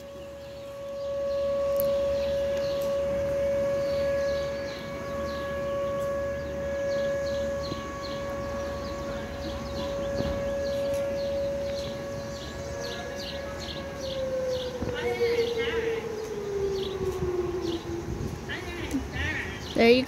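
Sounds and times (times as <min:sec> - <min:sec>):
warning siren steady tone: 0:00.0 - 0:20.0.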